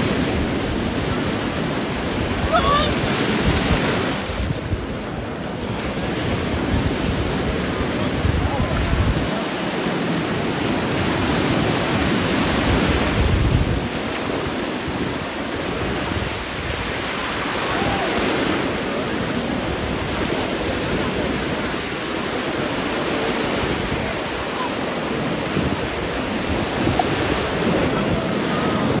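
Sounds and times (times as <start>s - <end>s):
sea waves breaking in shallows: 0.0s - 29.0s
wind buffeting microphone: 0.0s - 29.0s.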